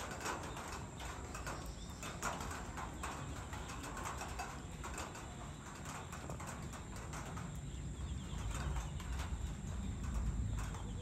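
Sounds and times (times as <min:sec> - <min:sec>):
rapid clicking and chirping: 0:00.0 - 0:11.0.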